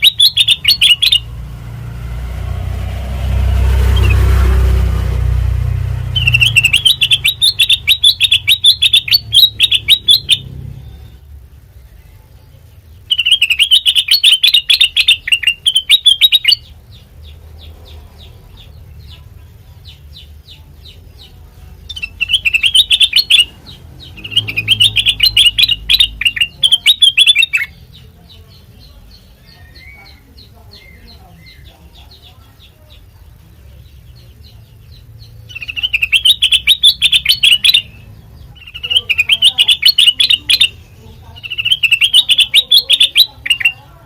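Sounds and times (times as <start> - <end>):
songbird chattering: 0.0 - 1.4, 6.0 - 44.0.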